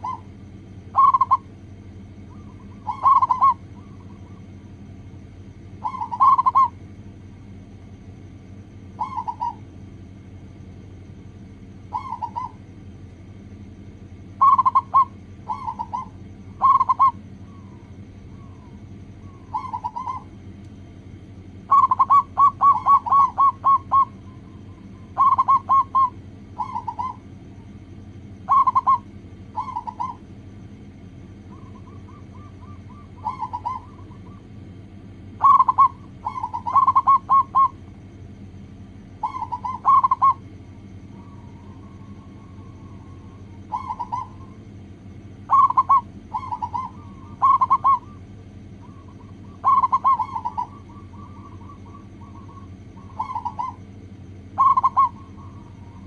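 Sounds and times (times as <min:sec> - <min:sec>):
dove cooing: 0:00.0 - 0:06.9, 0:08.3 - 0:09.9, 0:11.4 - 0:12.8, 0:14.3 - 0:38.0, 0:39.1 - 0:56.0
steady low hum: 0:00.0 - 0:56.0.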